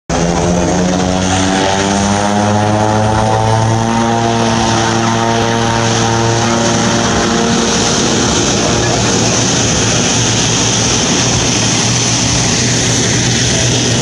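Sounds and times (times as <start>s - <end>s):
turboprop engines droning: 0.1s - 14.0s.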